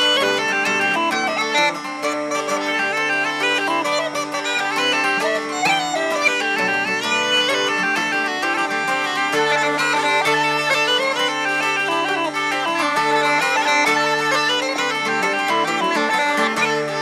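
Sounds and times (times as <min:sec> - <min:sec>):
acoustic guitar strumming: 0:00.0 - 0:17.0
bagpipes playing a jig: 0:00.0 - 0:17.0.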